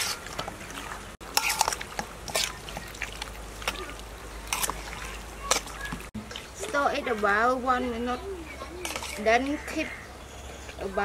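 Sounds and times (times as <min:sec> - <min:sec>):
meat squelching in metal bowl: 0:00.0 - 0:10.0.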